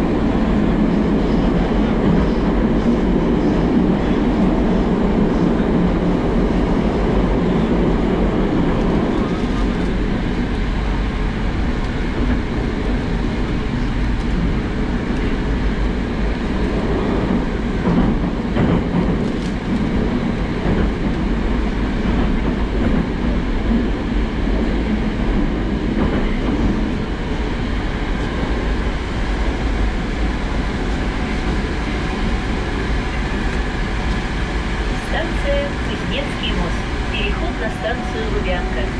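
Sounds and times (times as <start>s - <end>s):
metro train rumble in tunnel: 0.0s - 38.9s.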